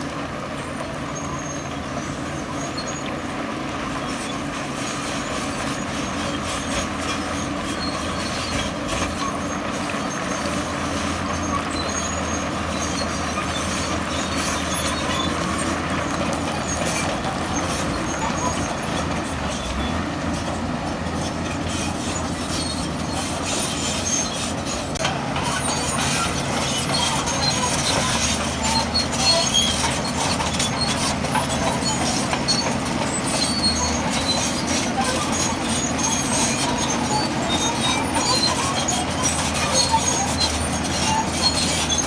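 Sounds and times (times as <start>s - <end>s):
bulldozer diesel engine: 0.0s - 42.0s
steel tracks clanking and squealing: 0.0s - 42.0s.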